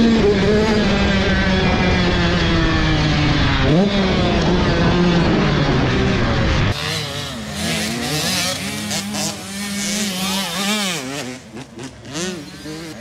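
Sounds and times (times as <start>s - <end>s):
dirt bike engine running: 0.0s - 13.0s
dirt bikes revving on track: 0.0s - 13.0s.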